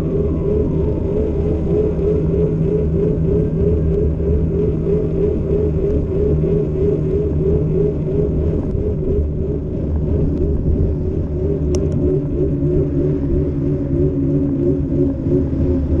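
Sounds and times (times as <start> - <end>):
bicycle tyres rolling on asphalt: 0.0 - 14.6
wavering hum: 0.0 - 16.0
wind on microphone: 0.0 - 16.0.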